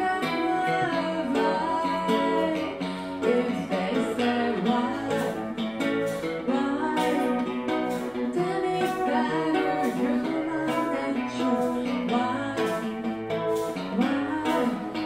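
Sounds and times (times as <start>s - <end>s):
acoustic guitar music: 0.0s - 15.0s
person singing: 0.0s - 15.0s.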